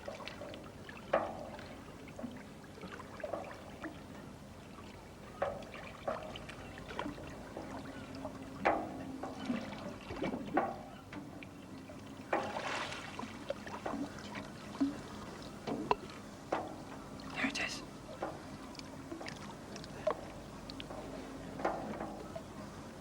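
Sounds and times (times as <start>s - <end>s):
water splashing and lapping: 0.0s - 23.0s.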